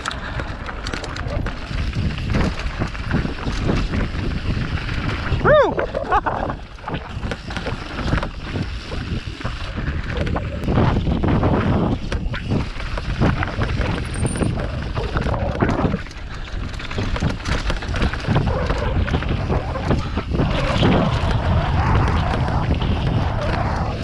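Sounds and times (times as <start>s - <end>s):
tyres crunching on dirt trail: 0.0s - 23.6s
bike knocking and rattling: 0.0s - 24.0s
wind rushing over microphone: 0.0s - 24.0s.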